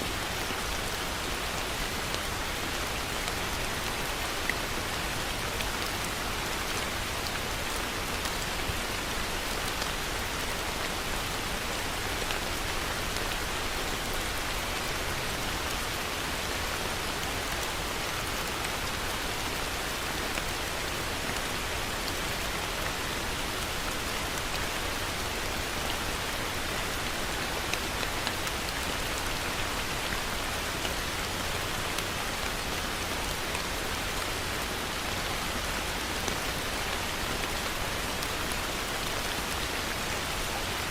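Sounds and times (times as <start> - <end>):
raindrops ticking on surfaces: 0.0 - 40.9.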